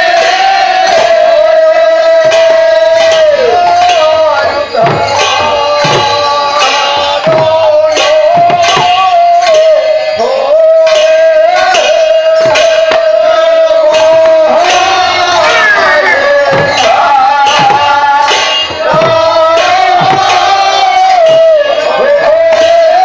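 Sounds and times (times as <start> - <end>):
clay drums beating fast rhythm: 0.0 - 23.0.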